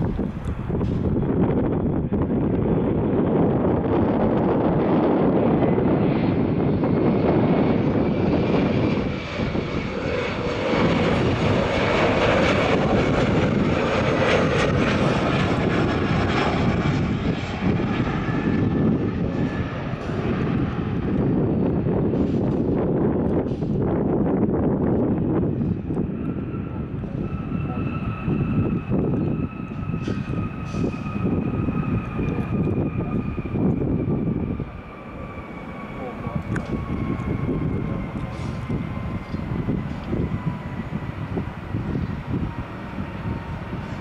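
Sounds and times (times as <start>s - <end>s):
jet airliner landing overhead: 0.0s - 44.0s.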